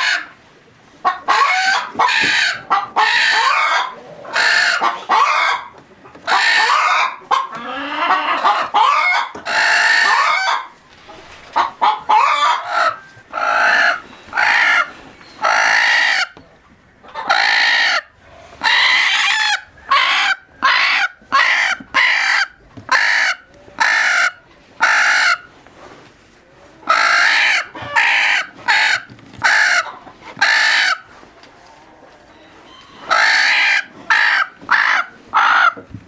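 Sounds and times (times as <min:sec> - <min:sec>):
chickens calling loudly: 0:00.0 - 0:36.0.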